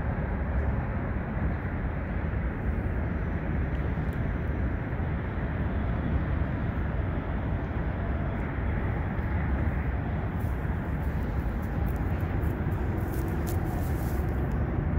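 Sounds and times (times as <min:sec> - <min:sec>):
low rumble of road traffic: 0:00.0 - 0:14.9.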